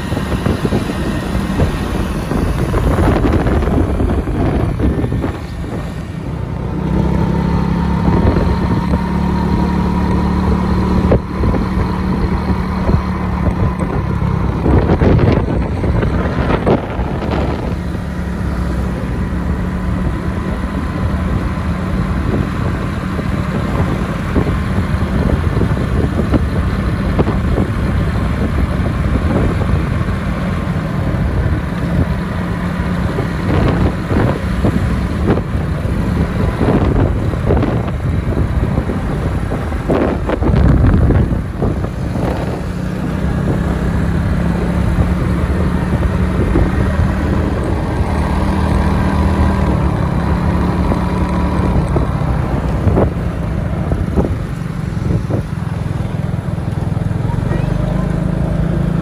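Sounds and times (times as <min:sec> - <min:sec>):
motor scooter engine running: 0:00.0 - 0:59.0
road and wind noise: 0:00.0 - 0:59.0.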